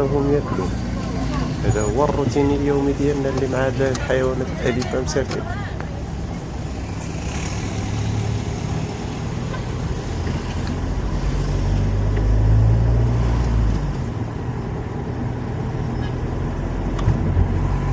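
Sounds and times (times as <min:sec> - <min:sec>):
car engine and road rumble: 0:00.0 - 0:17.9.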